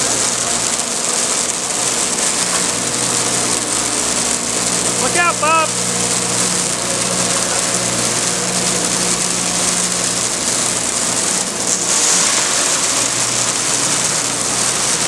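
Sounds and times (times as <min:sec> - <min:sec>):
grinding hiss of shredded shells: 0:00.0 - 0:15.0
shredder motor humming: 0:00.0 - 0:15.0.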